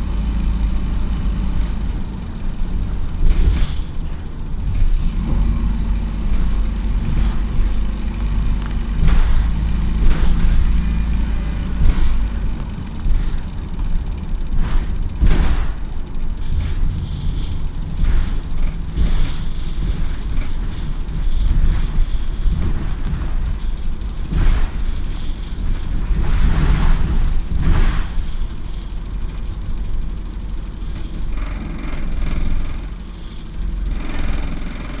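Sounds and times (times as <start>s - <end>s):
bus engine and road rumble: 0.0s - 35.0s
bus rattles: 0.0s - 35.0s.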